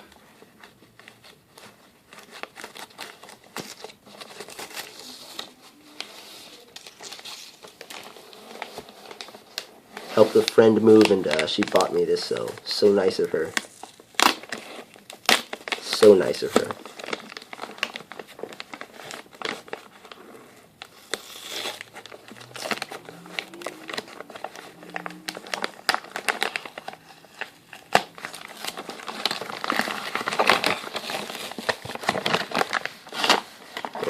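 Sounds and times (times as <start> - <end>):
wrapping paper crinkling: 0.0 - 34.0.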